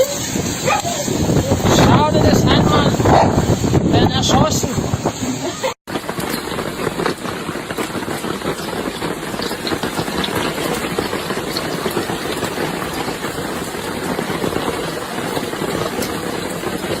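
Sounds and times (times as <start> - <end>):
heavy hail clattering: 0.0 - 17.0.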